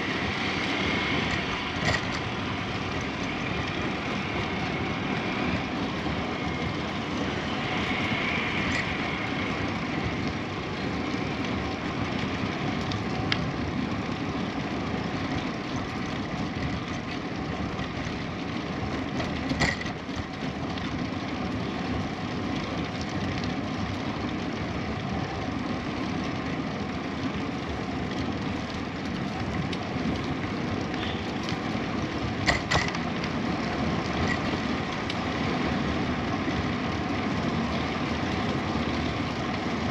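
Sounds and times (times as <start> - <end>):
bicycle rolling: 0.0 - 39.9.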